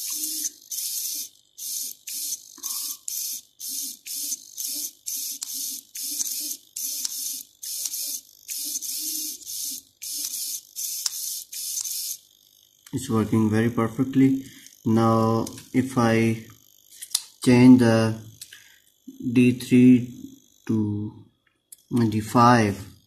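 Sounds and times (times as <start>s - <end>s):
micro servo whirring: 0.0s - 20.8s.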